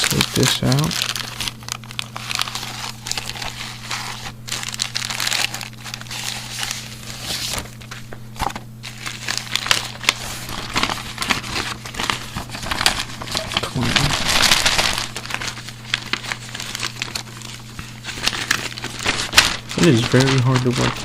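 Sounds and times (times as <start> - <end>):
plastic packaging crinkling: 0.0 - 21.0
steady low hum: 0.0 - 21.0.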